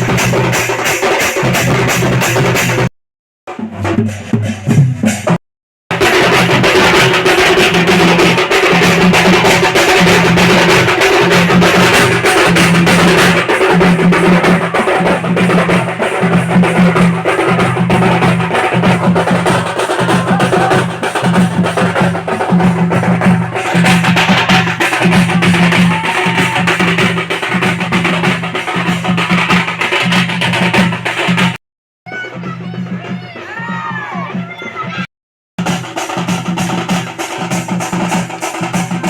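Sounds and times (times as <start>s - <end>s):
loud music with percussion beat: 0.0s - 2.9s, 3.5s - 39.0s.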